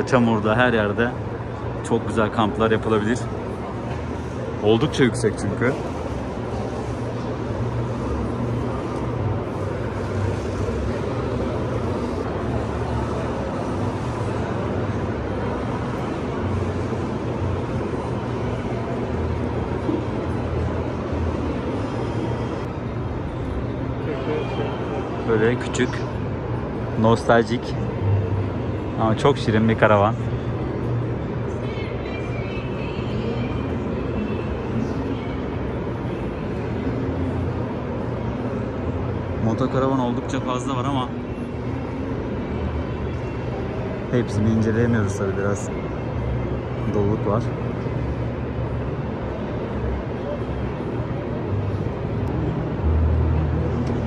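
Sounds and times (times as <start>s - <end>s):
faint crowd murmur: 0.0s - 54.0s.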